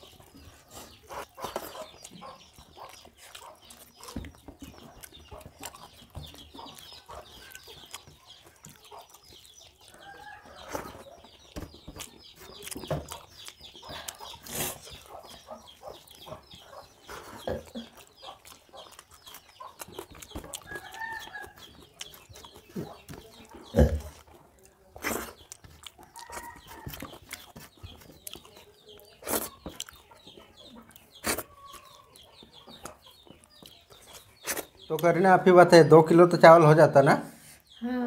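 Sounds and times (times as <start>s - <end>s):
chickens clucking: 0.0s - 38.0s
people eating and chewing: 0.0s - 38.0s.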